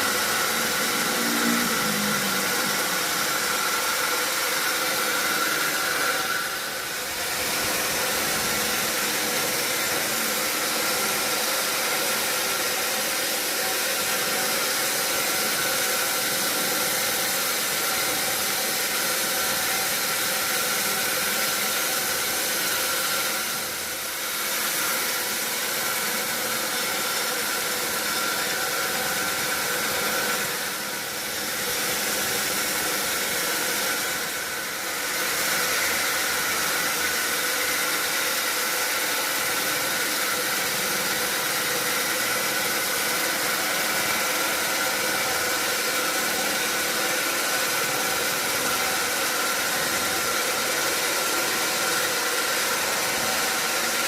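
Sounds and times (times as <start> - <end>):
sawmill machinery whining: 0.0 - 54.0.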